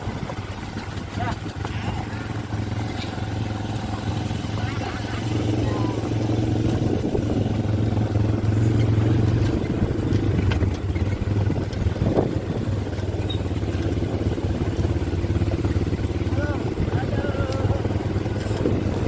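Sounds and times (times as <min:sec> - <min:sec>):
quad bike engine droning: 0:00.0 - 0:19.0.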